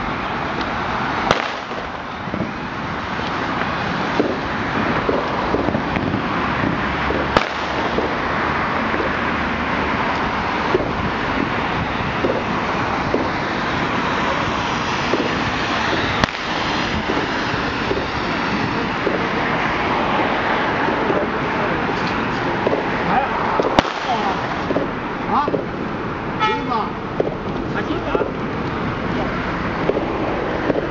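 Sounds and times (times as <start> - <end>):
loud firework bangs: 0.0 - 26.4, 27.0 - 30.9
fireworks and firecrackers: 0.0 - 30.9.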